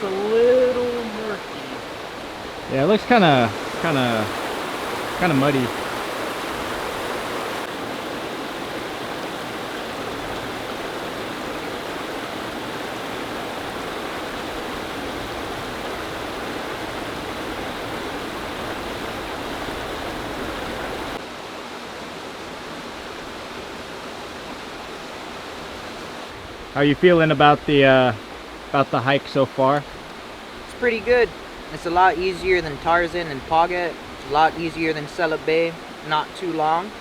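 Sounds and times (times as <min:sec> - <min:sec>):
waterfall and stream rushing: 0:00.0 - 0:37.0.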